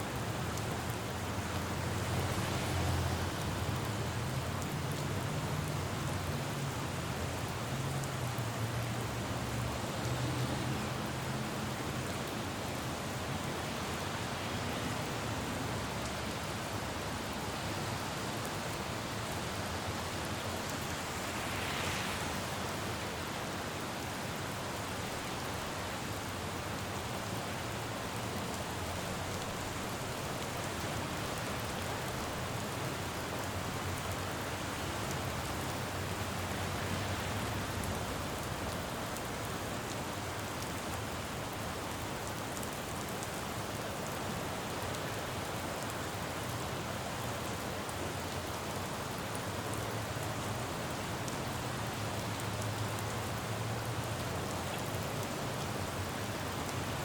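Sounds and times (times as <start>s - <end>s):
rain falling on road: 0.0s - 57.0s
tyres hissing on wet road: 0.0s - 57.0s.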